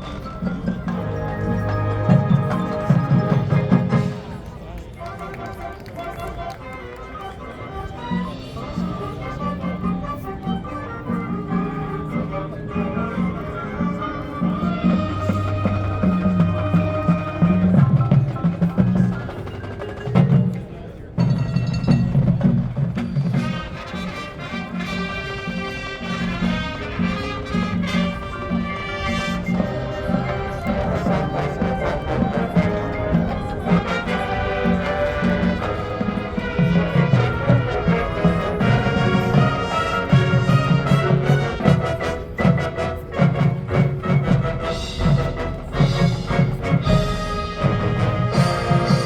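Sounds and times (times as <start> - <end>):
drumming: 0.0 - 4.6, 13.9 - 49.0
brass ensemble: 0.0 - 49.0
marching band playing: 0.0 - 49.0
percussion steady beat: 0.0 - 49.0.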